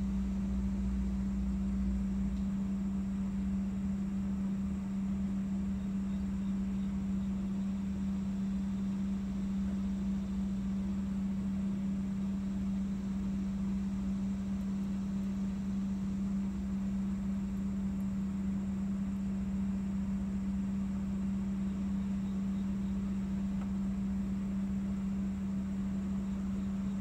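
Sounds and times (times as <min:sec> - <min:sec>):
mechanical hum with low tone: 0:00.0 - 0:27.0.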